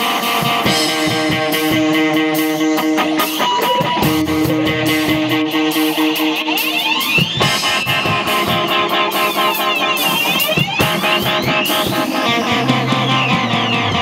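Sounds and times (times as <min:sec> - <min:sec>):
rock band electric guitars: 0:00.0 - 0:14.0.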